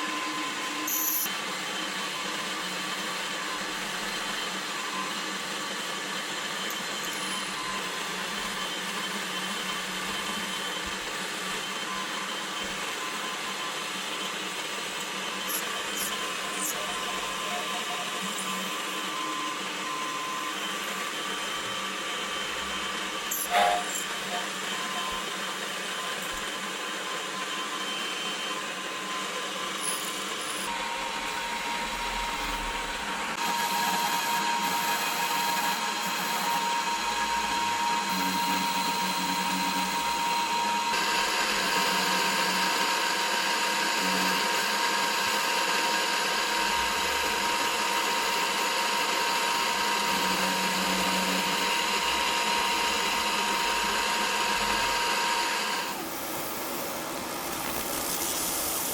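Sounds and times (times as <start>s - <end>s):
milling machine whining: 0.0s - 58.9s.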